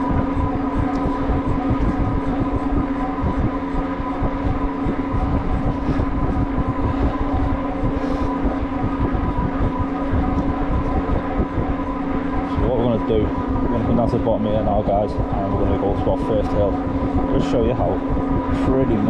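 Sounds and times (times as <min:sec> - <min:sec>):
electric motor whine: 0:00.0 - 0:19.0
wind buffeting microphone: 0:00.0 - 0:19.0.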